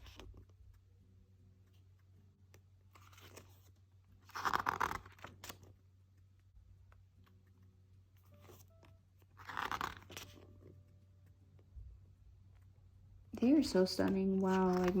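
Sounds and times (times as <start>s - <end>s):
paper page turning: 0.0s - 0.8s, 1.6s - 11.4s, 13.6s - 15.0s.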